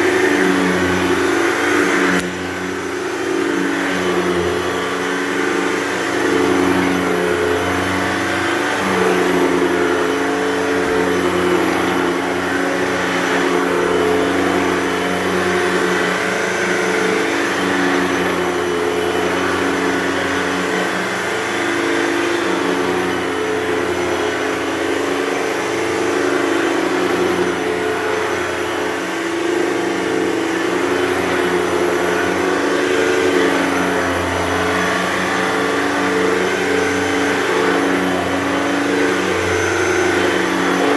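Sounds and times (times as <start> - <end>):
vacuum cleaner running on carpet: 0.0 - 40.9.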